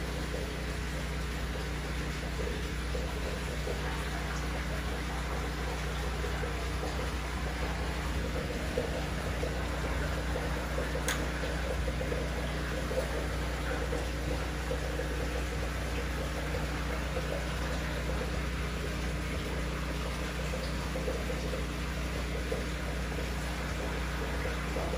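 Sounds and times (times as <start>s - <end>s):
aquarium pump humming: 0.0s - 24.9s.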